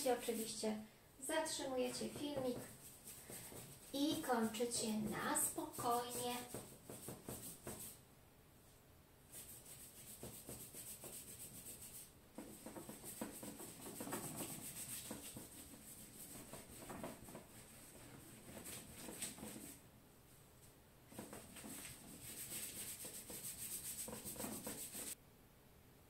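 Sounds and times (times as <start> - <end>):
wet paintbrush swishing on paper: 0.0 - 0.6, 1.5 - 8.0, 9.3 - 19.8, 21.1 - 25.2.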